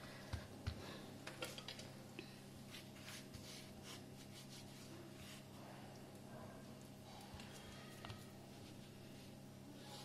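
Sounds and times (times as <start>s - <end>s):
hands folding dough: 0.0s - 10.0s
low steady hum: 0.0s - 10.0s.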